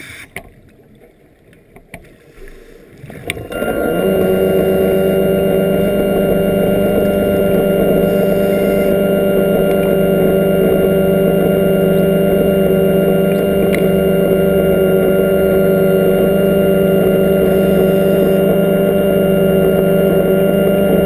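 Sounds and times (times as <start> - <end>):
underwater scooter motor whining: 0.0 - 21.0.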